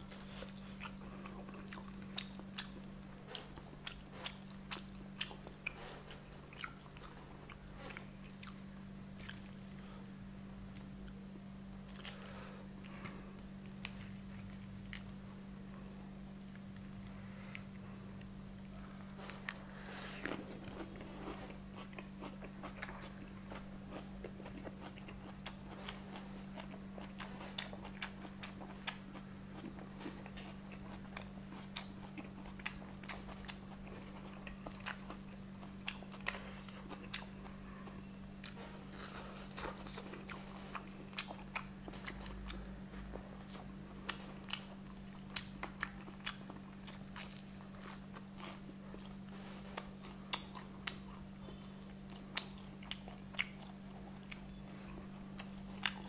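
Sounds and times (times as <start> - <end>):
chewing crispy chicken: 0.0 - 15.9, 16.5 - 56.0
steady low hum: 0.0 - 56.0.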